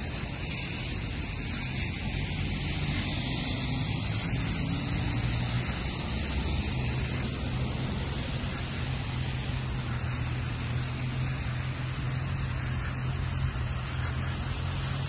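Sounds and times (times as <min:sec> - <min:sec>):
low engine hum: 0:00.0 - 0:15.0
tyres hissing on wet road: 0:00.0 - 0:15.0.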